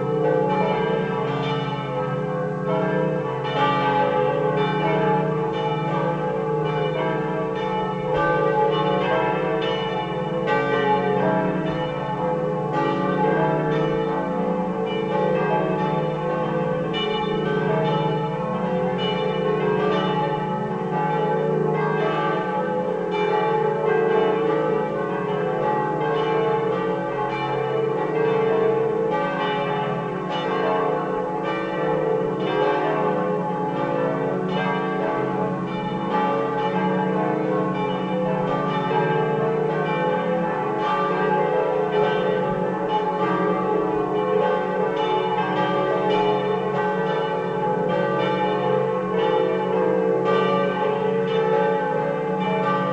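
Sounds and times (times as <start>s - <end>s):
church bells ringing together: 0.0s - 52.9s.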